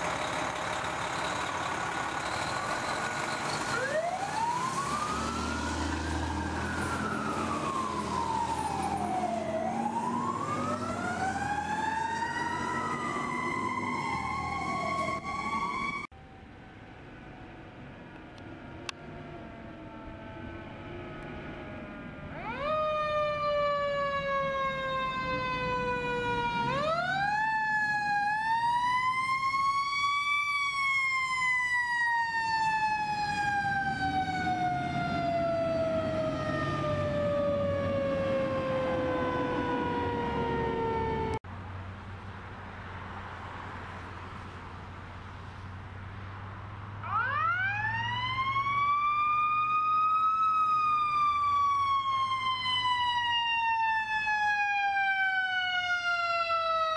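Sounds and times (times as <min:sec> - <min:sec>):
fire truck siren wailing: 0:00.0 - 0:41.4, 0:47.0 - 0:56.9
truck engines rumbling: 0:00.0 - 0:56.9.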